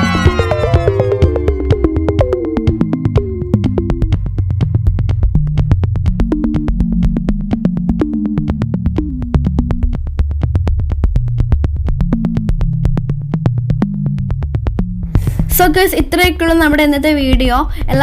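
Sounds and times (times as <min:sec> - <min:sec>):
electronic music with clicking beat: 0:00.0 - 0:18.0.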